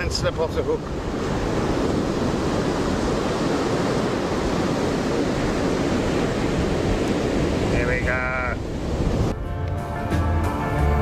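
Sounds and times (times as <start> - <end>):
ocean surf breaking: 0.0 - 9.4
wind on the microphone: 0.0 - 9.4.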